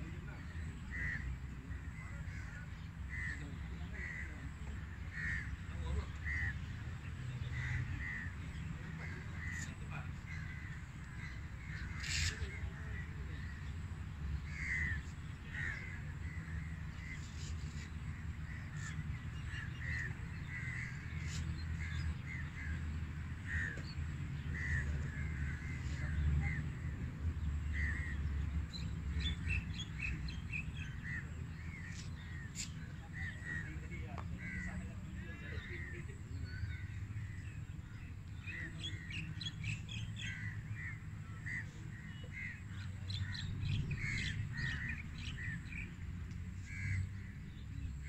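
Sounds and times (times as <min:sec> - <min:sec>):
birds calling: 0:00.0 - 0:48.0.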